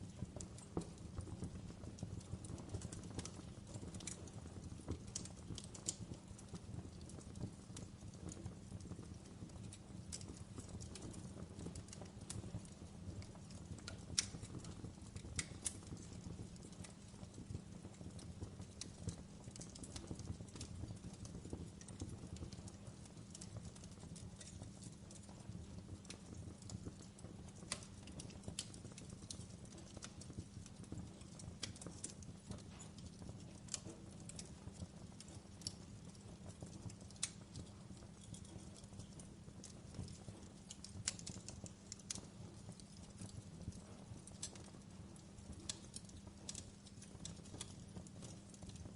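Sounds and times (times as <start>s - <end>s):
wood fire crackling: 0.0s - 48.9s
sharp pops and snaps: 8.3s - 25.4s, 26.0s - 48.9s.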